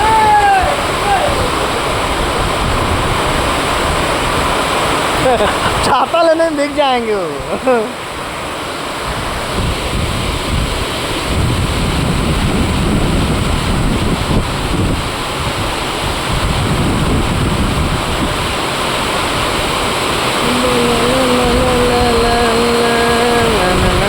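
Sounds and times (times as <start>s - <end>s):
wind buffeting microphone: 0.0s - 5.9s, 7.3s - 24.0s
heavy rain: 0.0s - 24.0s.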